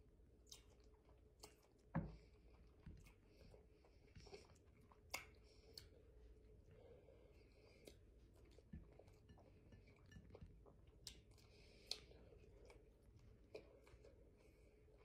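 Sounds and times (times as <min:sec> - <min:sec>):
person chewing fruit: 0:00.3 - 0:15.0.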